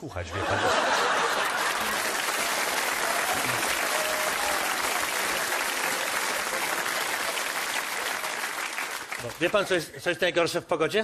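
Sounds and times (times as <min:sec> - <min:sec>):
audience applauding: 0:00.5 - 0:09.8.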